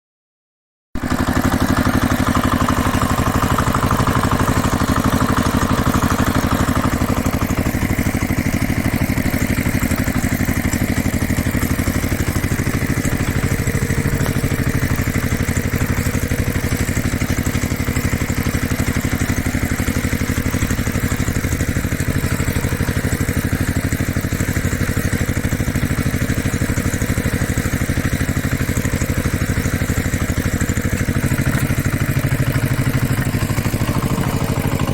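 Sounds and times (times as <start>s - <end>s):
small engine idling: 1.0s - 34.9s.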